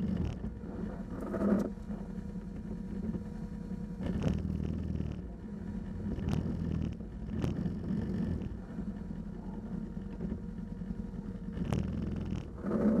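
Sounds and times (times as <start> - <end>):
quad engine running at low revs: 0.0 - 13.0.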